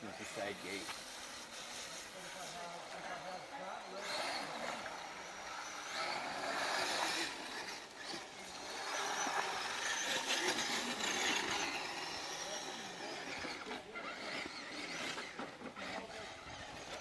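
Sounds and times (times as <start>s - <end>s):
small electric motor whirring: 0.0s - 17.0s
tyres working over terrain: 0.0s - 17.0s.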